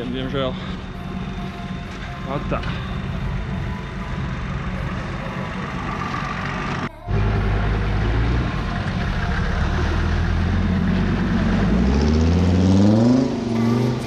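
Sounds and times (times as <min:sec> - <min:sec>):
vehicle engine revving: 0:02.4 - 0:14.0.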